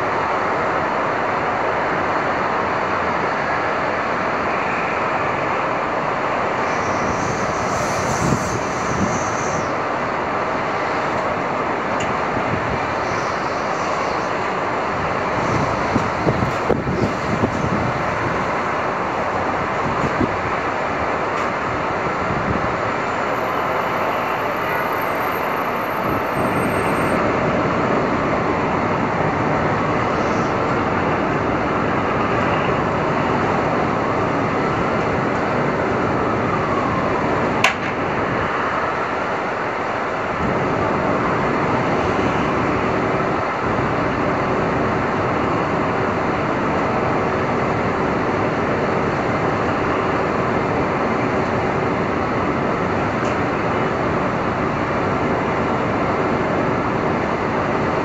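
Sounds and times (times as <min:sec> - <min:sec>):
street traffic noise: 0:00.0 - 0:58.0.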